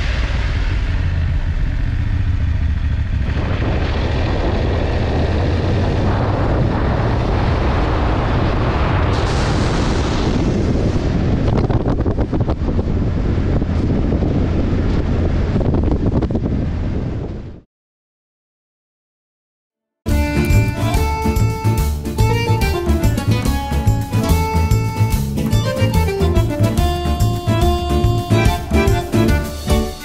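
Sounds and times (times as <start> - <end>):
motorcycle engine drone: 0.0 - 17.6, 20.1 - 30.0
wind noise on microphone: 0.0 - 17.7, 20.1 - 29.7.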